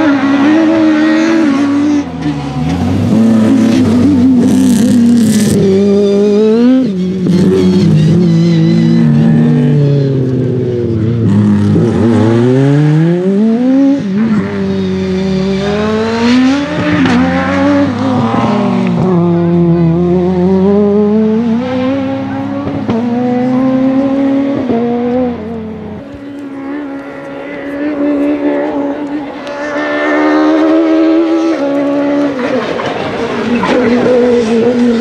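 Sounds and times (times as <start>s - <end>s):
car engine revving high: 0.0s - 35.0s.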